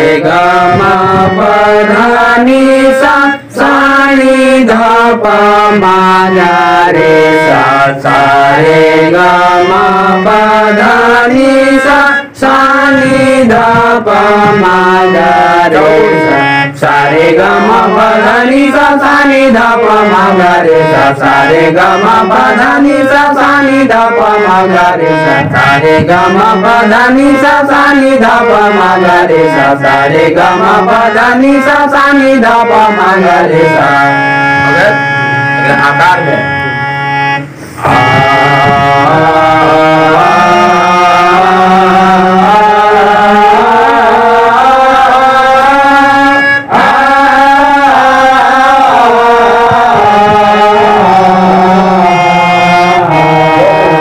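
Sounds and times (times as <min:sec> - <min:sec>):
harmonium playing scales: 0:00.0 - 0:54.0.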